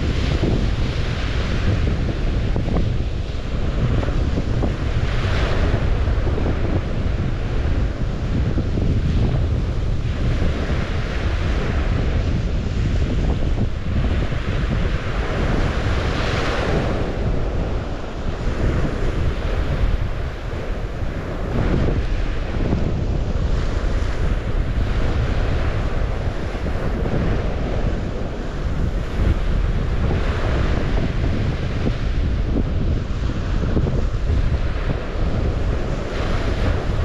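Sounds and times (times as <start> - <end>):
waves washing on shore: 0.0 - 37.0
wind buffeting microphone: 0.0 - 37.0.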